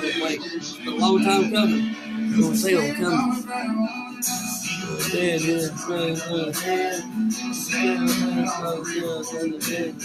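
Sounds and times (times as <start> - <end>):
guitar music: 0.0 - 10.0.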